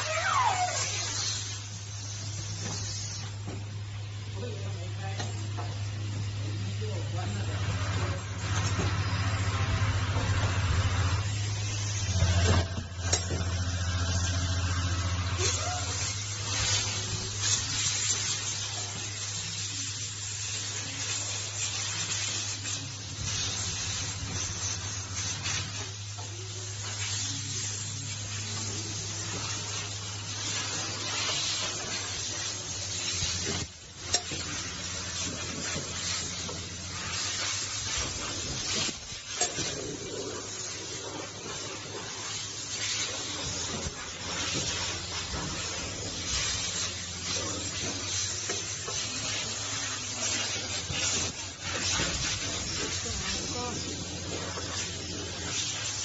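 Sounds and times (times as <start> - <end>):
welding machine hiss: 0.0 - 56.0.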